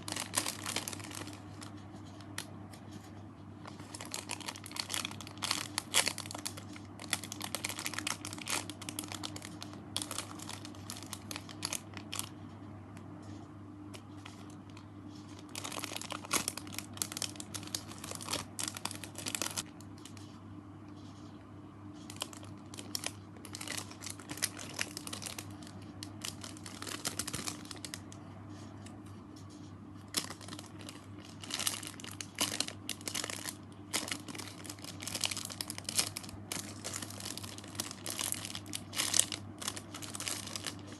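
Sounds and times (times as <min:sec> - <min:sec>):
squishy toys crinkling: 0:00.0 - 0:02.6, 0:03.6 - 0:12.4, 0:13.9 - 0:20.3, 0:22.0 - 0:28.2, 0:30.0 - 0:40.9
steady low hum: 0:00.0 - 0:40.9.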